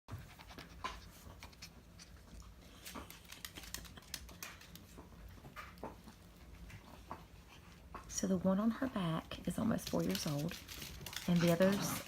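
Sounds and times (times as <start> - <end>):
puppy sounds: 0.1 - 7.9, 9.6 - 12.0
puppy paws pattering on floor: 0.1 - 12.0.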